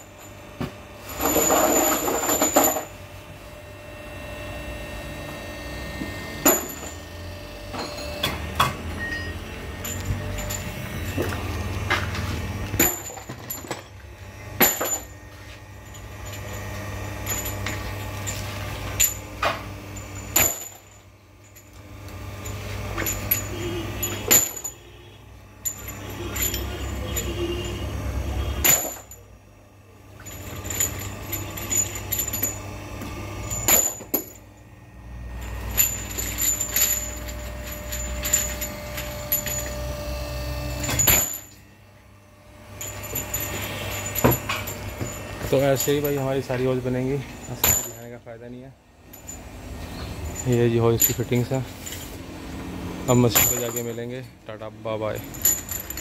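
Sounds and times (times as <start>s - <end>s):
metal parts clinking: 1.0s - 3.0s, 6.0s - 29.4s, 30.1s - 41.8s, 42.7s - 56.0s.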